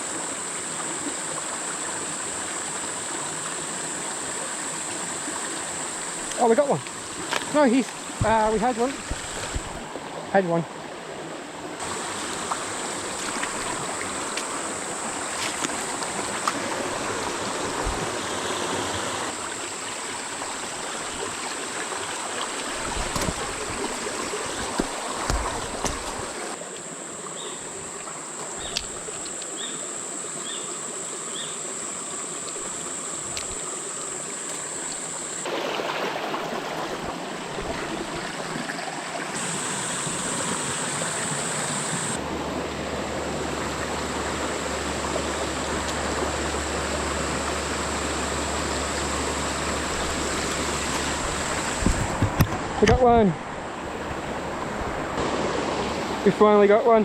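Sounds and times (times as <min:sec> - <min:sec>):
creek trickling over rocks: 0:00.0 - 0:57.0.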